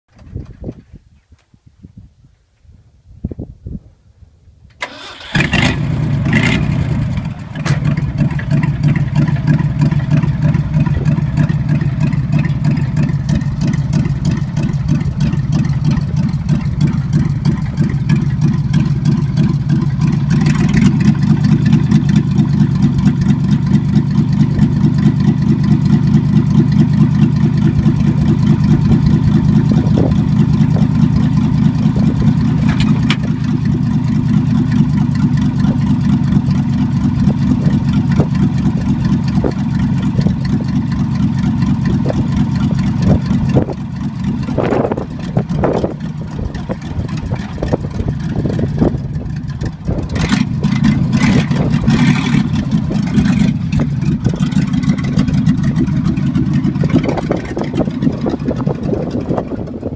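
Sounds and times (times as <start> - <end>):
truck engine cranking and running: 4.8 - 59.9.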